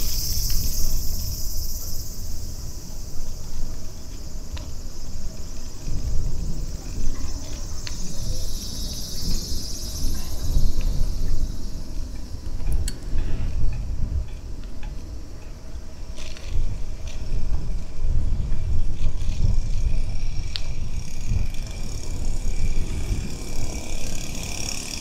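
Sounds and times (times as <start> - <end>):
cicadas buzzing: 0.0 - 25.0
steady low rumble: 0.0 - 25.0.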